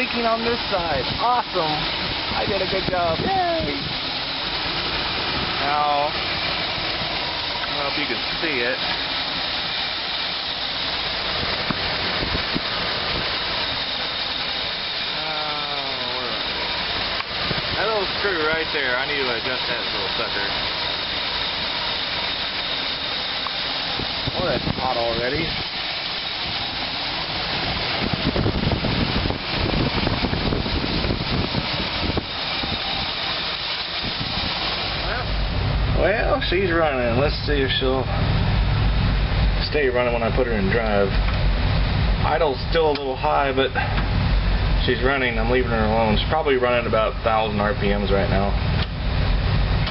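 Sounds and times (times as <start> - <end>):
bus engine idling: 0.0 - 49.9.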